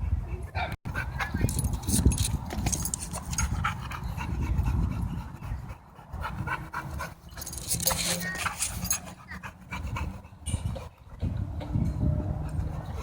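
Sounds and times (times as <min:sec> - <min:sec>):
dogs panting: 0:00.0 - 0:11.4, 0:12.3 - 0:13.0.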